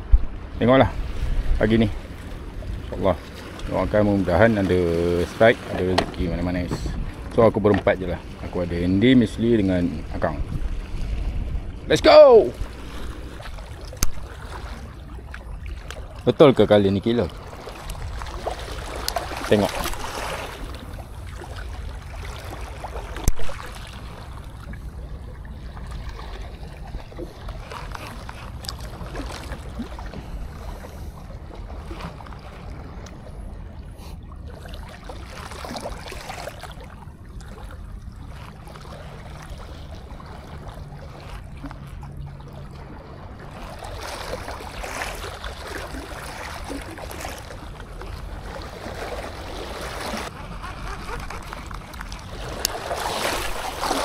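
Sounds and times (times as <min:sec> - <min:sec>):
wind rumbling on microphone: 0:00.0 - 0:54.0
small waves lapping on rocks: 0:00.6 - 0:33.4, 0:34.5 - 0:54.0.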